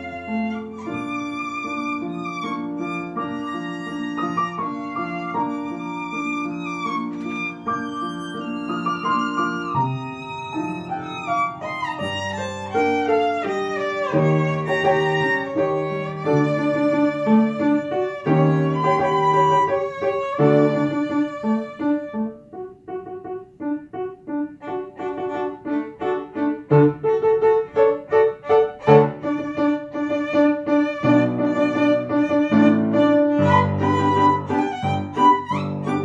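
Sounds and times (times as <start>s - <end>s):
bowed violin melody: 0.0s - 22.4s, 24.6s - 36.0s
piano accompaniment: 0.0s - 36.0s.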